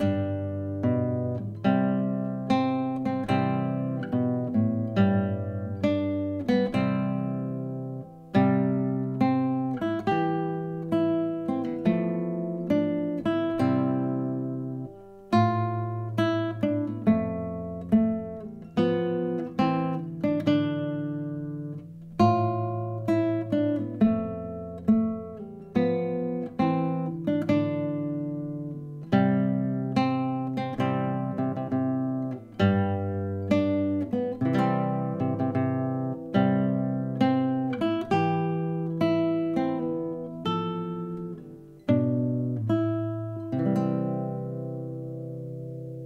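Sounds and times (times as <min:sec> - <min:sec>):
classical guitar fingerstyle: 0:00.0 - 0:46.0.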